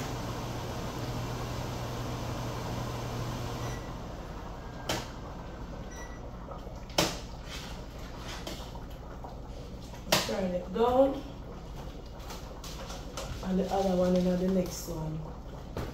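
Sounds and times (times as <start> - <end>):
kitchen hum: 0.0 - 15.9.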